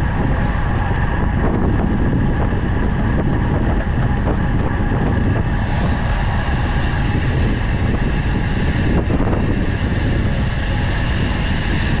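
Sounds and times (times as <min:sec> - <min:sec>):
bike tyres on asphalt: 0:00.0 - 0:12.0
wind buffeting microphone: 0:00.0 - 0:12.0.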